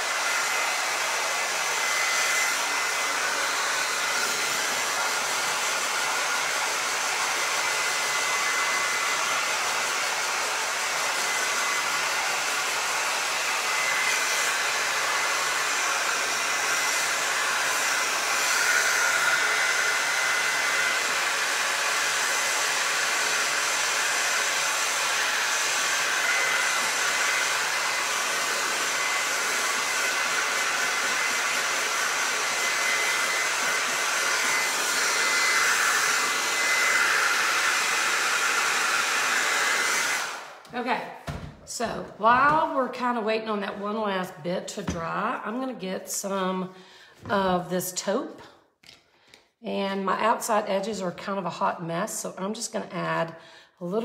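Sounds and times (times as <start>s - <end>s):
hair dryer running: 0.0s - 48.2s.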